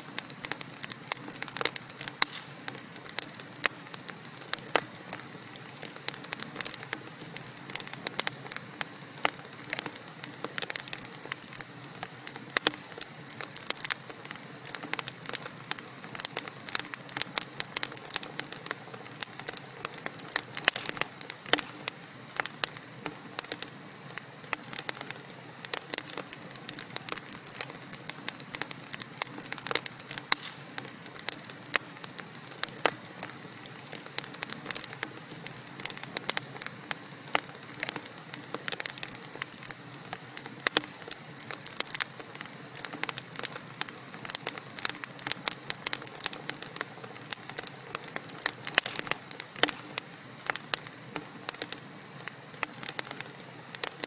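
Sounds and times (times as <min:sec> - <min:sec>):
soft fire hiss: 0:00.0 - 0:54.0
wood fire crackling and popping: 0:00.0 - 0:54.0.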